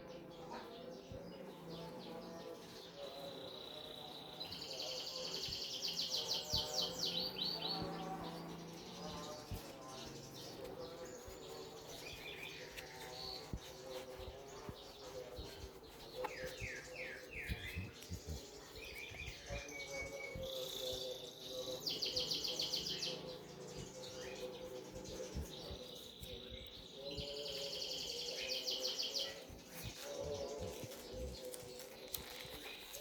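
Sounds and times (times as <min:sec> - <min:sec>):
birds chirping and singing: 0:00.0 - 0:33.0.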